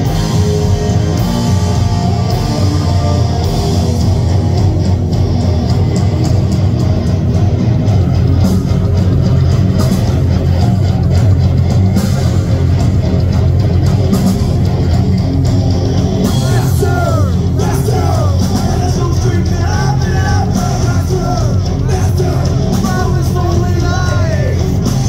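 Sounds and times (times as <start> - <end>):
bass guitar: 0.0 - 25.0
bending lead guitar line: 0.0 - 25.0
distorted electric guitars: 0.0 - 25.0
drums: 0.0 - 25.0.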